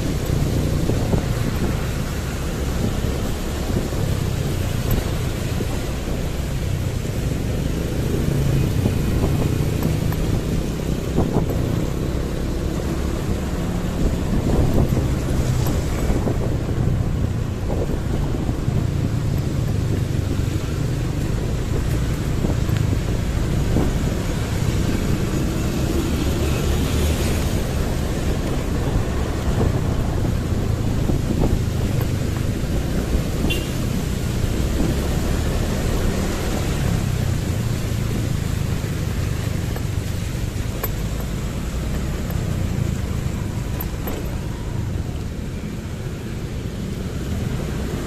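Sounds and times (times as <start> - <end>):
motorcycle engine rumble: 0.0 - 48.0
wind buffeting microphone: 0.0 - 48.0.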